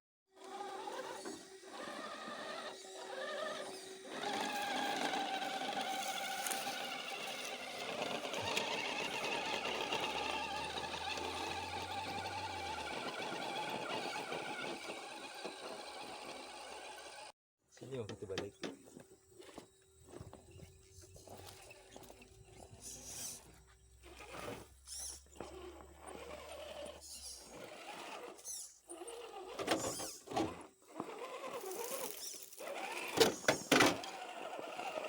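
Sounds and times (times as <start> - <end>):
electric motor whining: 0.4 - 17.3, 18.2 - 35.0.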